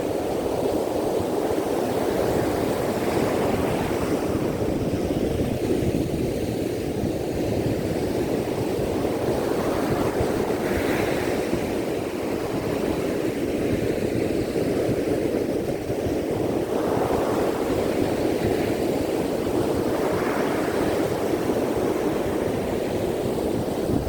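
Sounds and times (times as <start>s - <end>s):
ocean waves roaring: 0.0s - 24.0s.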